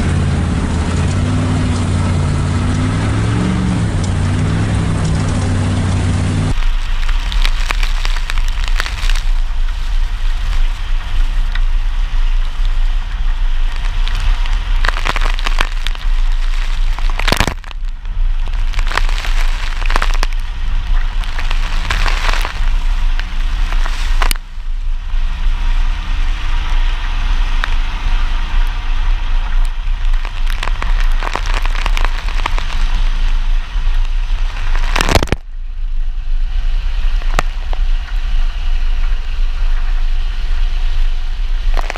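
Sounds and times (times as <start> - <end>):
rain and mud spattering on body: 0.0 - 24.6, 26.7 - 35.5, 37.0 - 40.6, 41.6 - 41.9
splashing surges: 0.0 - 35.4
truck engine and road rumble: 0.0 - 41.9.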